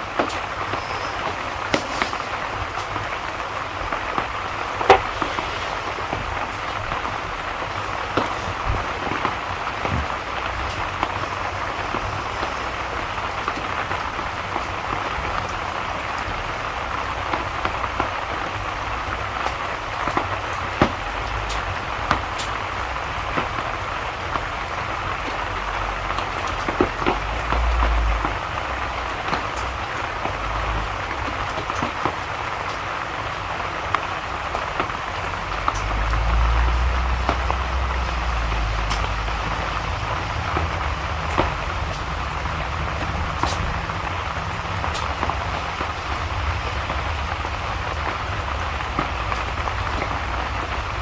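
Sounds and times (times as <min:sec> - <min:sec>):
clicks and drips: 0:00.0 - 0:51.0
steady rain: 0:00.0 - 0:51.0.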